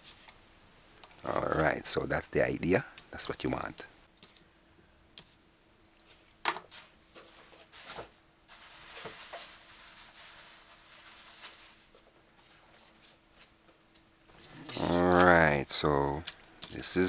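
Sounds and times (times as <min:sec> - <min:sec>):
soft hiss: 0:00.0 - 0:17.0.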